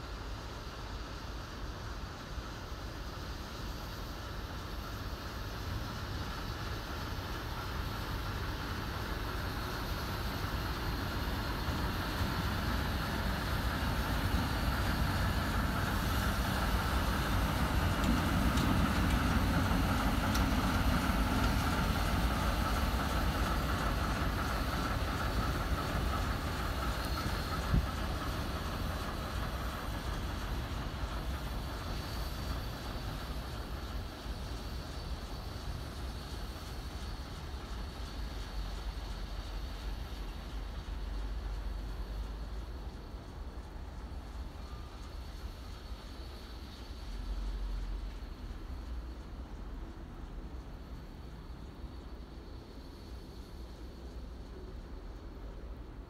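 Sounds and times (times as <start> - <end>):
diesel locomotive rolling past: 0.0 - 56.0.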